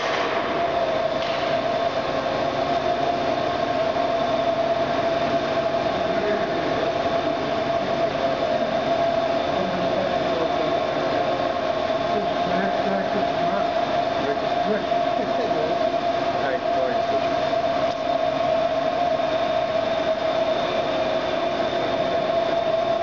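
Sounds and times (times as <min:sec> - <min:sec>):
surface grinder whining drone: 0:00.0 - 0:23.0.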